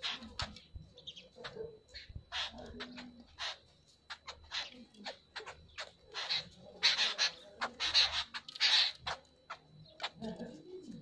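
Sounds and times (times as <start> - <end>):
birds calling harshly: 0.0 - 11.0.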